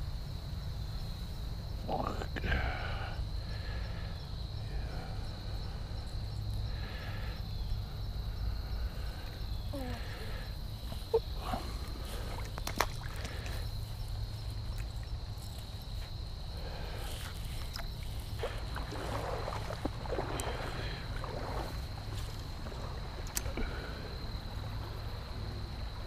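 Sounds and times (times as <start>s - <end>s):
creek water moving: 4.8s - 26.0s.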